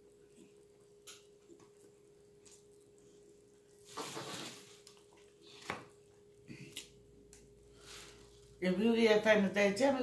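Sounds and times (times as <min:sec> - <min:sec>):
faint steady hum: 0:00.0 - 0:03.9, 0:04.5 - 0:10.0.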